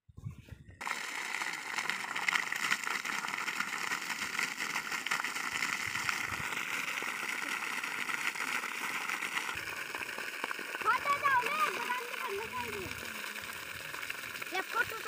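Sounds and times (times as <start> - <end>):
water gushing from pipe: 0.8 - 15.0
water splashing on dirt: 0.8 - 15.0.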